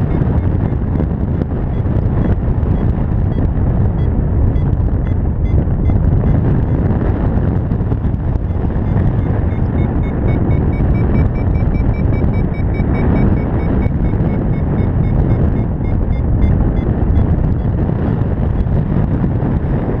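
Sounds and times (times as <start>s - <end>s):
variometer short beeps: 0.0s - 18.8s
wind on microphone: 0.0s - 20.0s.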